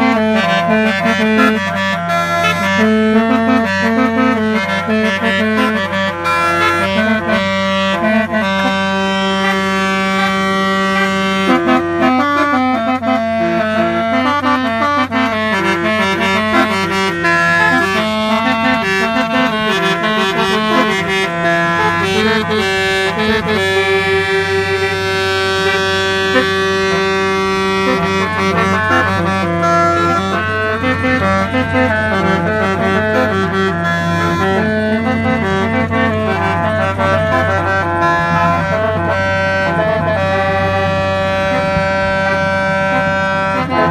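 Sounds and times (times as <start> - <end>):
musical car horn melody: 0.0 - 43.9.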